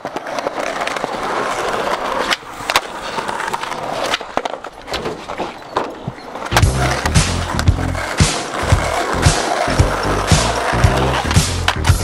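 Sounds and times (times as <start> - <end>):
skateboard clacks: 0.0 - 12.0
skateboard wheels rolling on concrete: 0.0 - 12.0.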